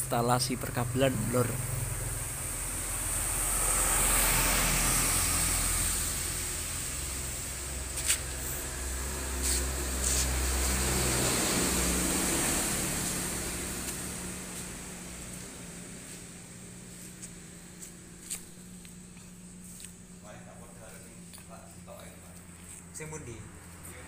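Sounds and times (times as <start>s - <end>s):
low electrical hum with hiss: 0.0s - 24.0s.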